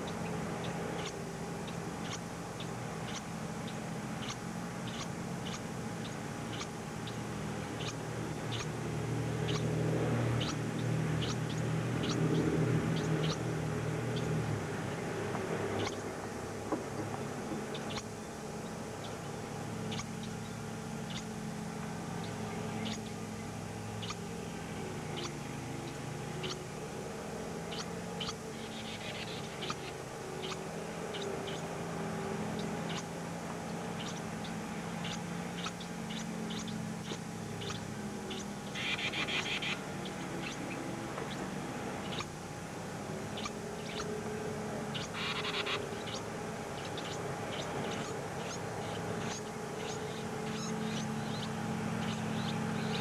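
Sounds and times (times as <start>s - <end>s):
baby songbirds chirping: 0.0s - 53.0s
low electrical hum: 0.0s - 53.0s.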